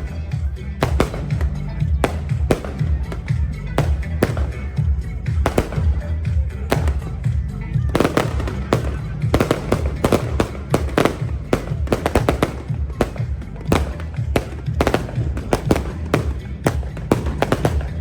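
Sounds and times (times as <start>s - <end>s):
fireworks bangs: 0.0s - 18.0s
music with heavy bass: 0.0s - 18.0s.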